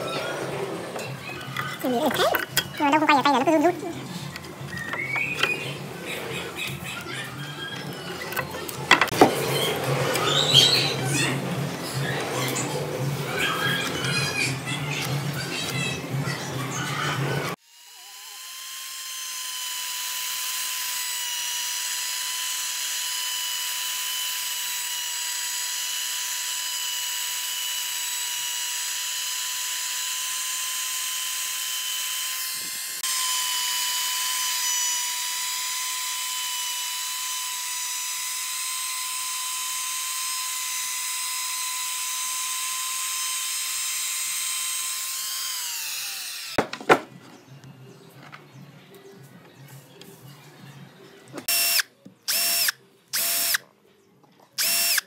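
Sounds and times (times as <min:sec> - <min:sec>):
router motor whining: 0:00.0 - 0:46.6, 0:51.4 - 0:53.6, 0:54.6 - 0:55.0.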